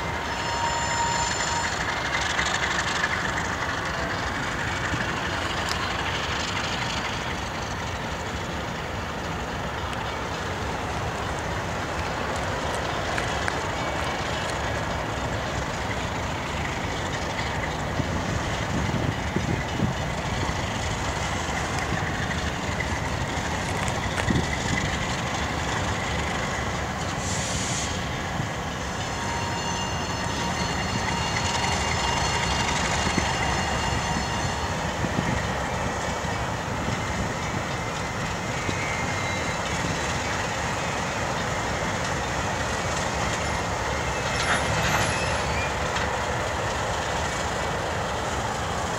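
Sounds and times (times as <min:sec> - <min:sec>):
freight train rumbling on rails: 0:00.0 - 0:48.9
train clanks: 0:00.0 - 0:48.9
wheels squealing on rail: 0:00.0 - 0:48.9.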